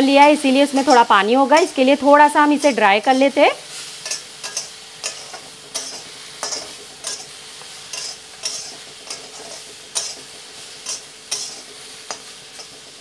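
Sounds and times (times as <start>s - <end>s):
faint sizzle: 0.0s - 13.0s
spatula scraping a pan: 0.7s - 1.8s, 3.0s - 13.0s.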